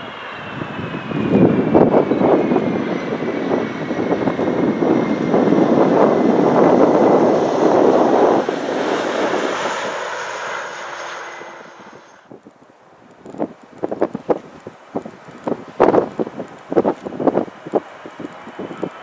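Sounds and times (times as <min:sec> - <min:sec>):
faint high engine whine: 0:00.0 - 0:13.4, 0:16.4 - 0:19.0
jet engines roaring: 0:00.0 - 0:19.0
wind buffeting microphone: 0:00.0 - 0:19.0.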